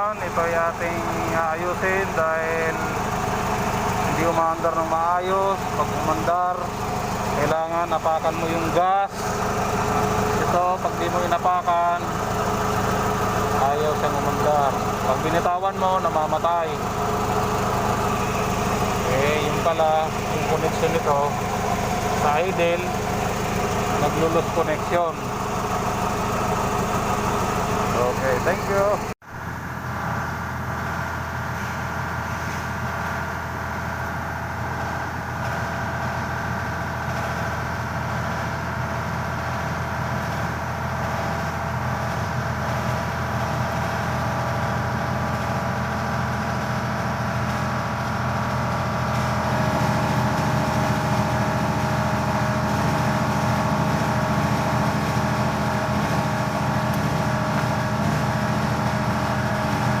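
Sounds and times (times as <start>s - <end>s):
forklift engine running: 0.0s - 60.0s.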